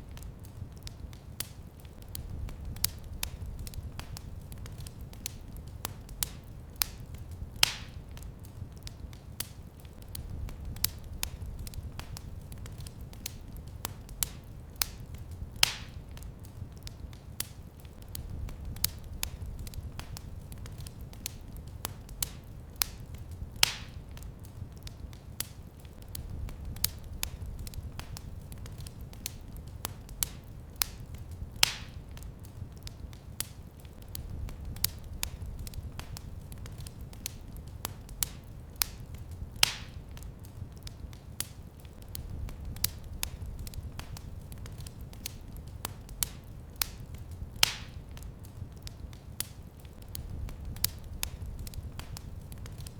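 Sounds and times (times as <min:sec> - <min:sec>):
fire popping: 0:00.0 - 0:52.9
wood fire crackling: 0:00.0 - 0:52.9.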